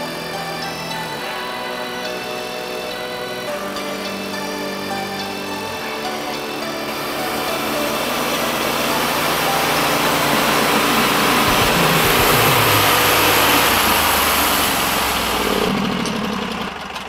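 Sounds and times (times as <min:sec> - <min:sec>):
band saw blade cutting wood: 0:00.0 - 0:16.5
sawmill engine running: 0:00.0 - 0:17.0.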